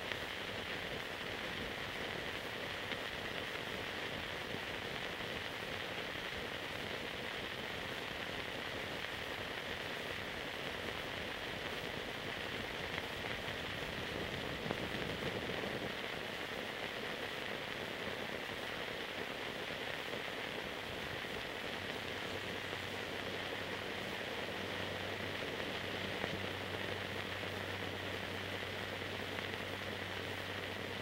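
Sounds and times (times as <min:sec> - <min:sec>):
old film soundtrack hiss and crackle: 0:00.0 - 0:31.0.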